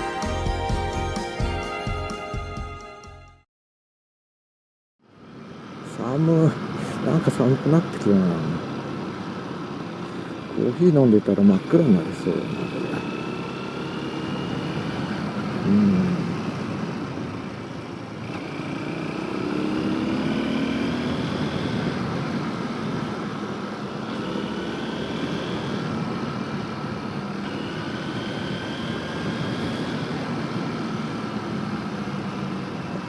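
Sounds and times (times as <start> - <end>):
motorcycle engine revving: 6.3 - 33.0.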